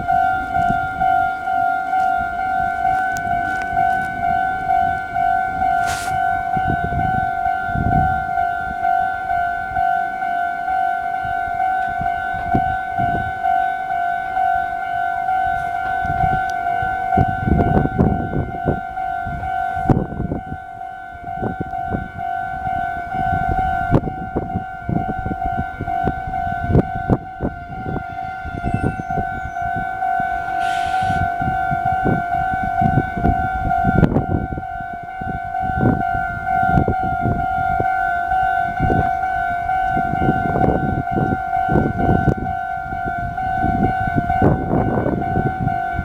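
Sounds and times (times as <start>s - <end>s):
level-crossing alarm ringing: 0.0s - 46.0s.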